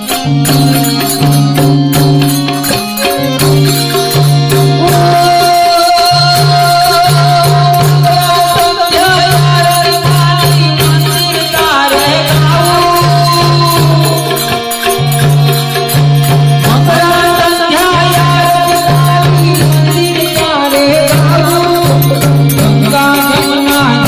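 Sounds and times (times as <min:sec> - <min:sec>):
harmonium chords: 0:00.0 - 0:24.0
jingling hand percussion: 0:00.0 - 0:24.0
person singing: 0:03.0 - 0:24.0.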